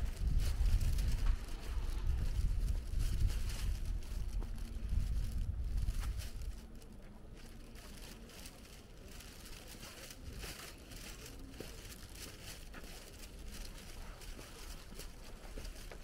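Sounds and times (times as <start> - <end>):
faint footsteps: 0.0 - 16.0.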